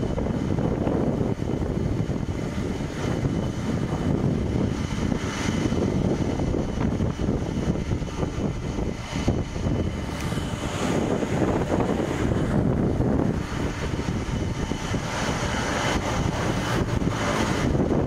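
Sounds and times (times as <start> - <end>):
jet engines at high thrust: 0.0 - 18.0.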